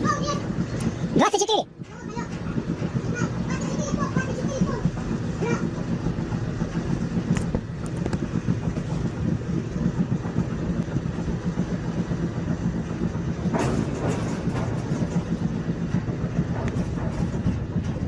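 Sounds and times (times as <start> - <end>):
running vehicle rumble: 0.0 - 18.0.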